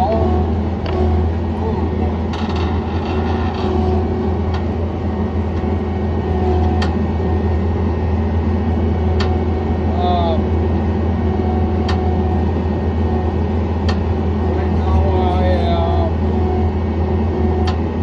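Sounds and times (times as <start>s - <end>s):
loader engine running: 0.0s - 18.0s.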